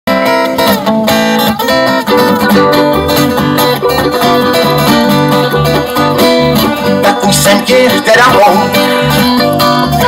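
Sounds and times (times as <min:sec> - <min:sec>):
bluegrass band playing: 0:00.1 - 0:10.0
picked acoustic guitar: 0:00.1 - 0:10.0
low bass notes: 0:01.9 - 0:10.0.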